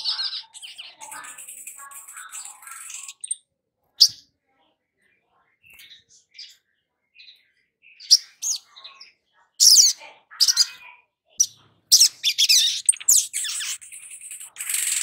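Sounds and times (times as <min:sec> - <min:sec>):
bird chirps and trills: 0:00.0 - 0:03.4, 0:05.6 - 0:15.0.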